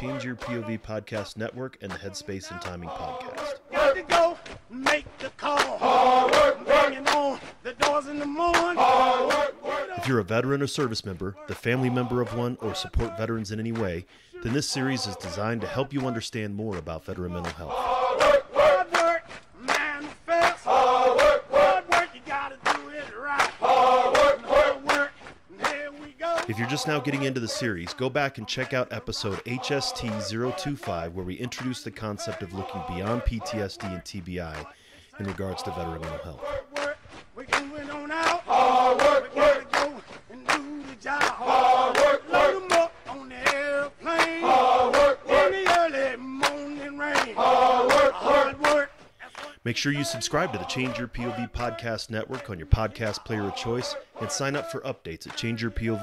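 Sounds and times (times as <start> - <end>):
men chanting in unison: 0.0 - 0.8, 2.2 - 10.3, 11.4 - 13.4, 14.4 - 16.1, 17.3 - 27.9, 28.5 - 54.8.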